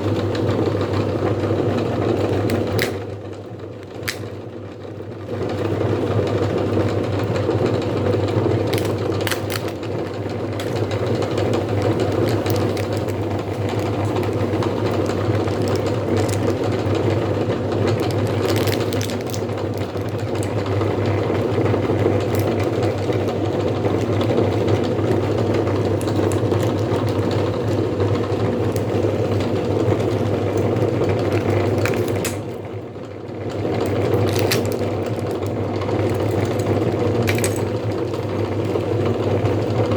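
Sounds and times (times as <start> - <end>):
hard candy crushing clicks: 1.8 - 4.5, 7.3 - 32.7, 33.5 - 38.4
electric meat grinder motor hum: 5.3 - 39.9.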